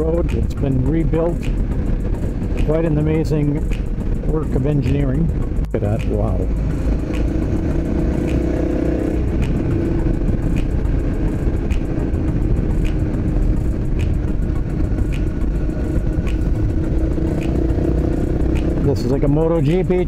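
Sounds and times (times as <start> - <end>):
motorcycle engine cruising: 0.0 - 20.0
wind rumble on microphone: 0.0 - 20.0.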